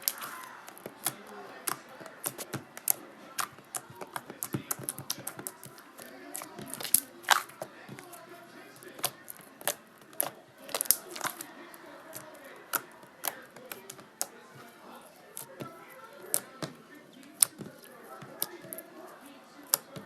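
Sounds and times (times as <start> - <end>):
slime clicking and popping: 0.0 - 20.0.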